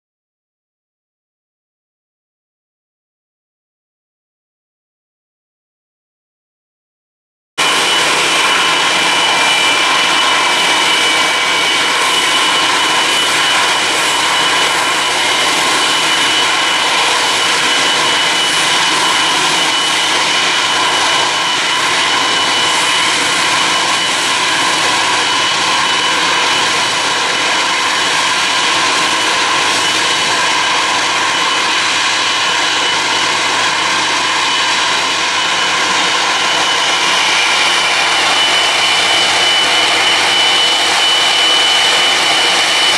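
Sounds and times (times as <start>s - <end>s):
jet engines whining at taxi power: 7.6s - 42.9s.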